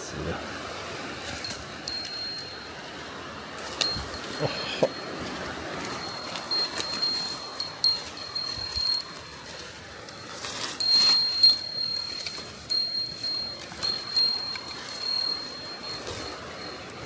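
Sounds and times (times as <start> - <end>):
footsteps on leaf litter: 1.2 - 17.0
small metal bell ringing: 1.4 - 3.0, 3.6 - 17.0.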